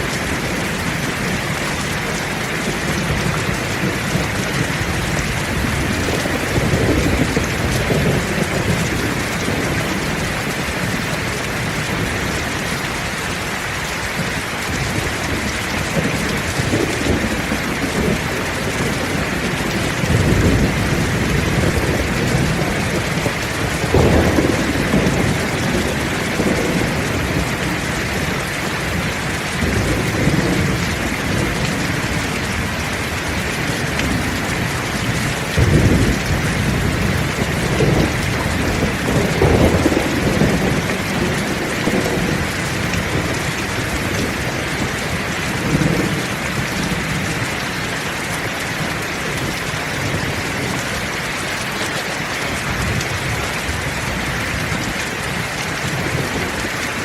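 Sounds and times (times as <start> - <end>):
rolling thunder: 0.0 - 12.6, 14.1 - 47.6
heavy rain: 0.0 - 57.0.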